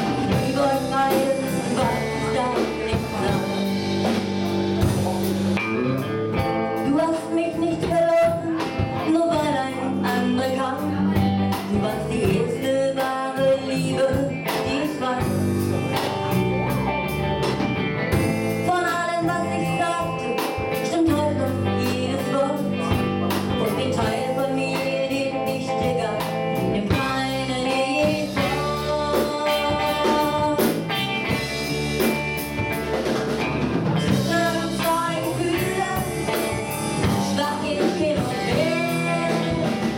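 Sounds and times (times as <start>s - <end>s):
woman singing: 0.0s - 5.0s, 6.6s - 16.2s, 18.6s - 31.6s, 34.0s - 39.9s
bass guitar: 0.0s - 39.9s
drum kit: 0.0s - 39.9s
electric guitar: 0.0s - 39.9s.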